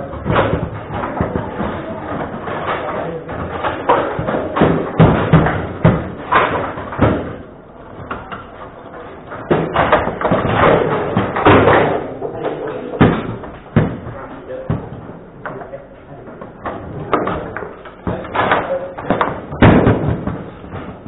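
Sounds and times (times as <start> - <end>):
table football knocks and slams: 0.0 - 8.5, 9.3 - 12.3, 12.9 - 15.2, 16.4 - 21.0.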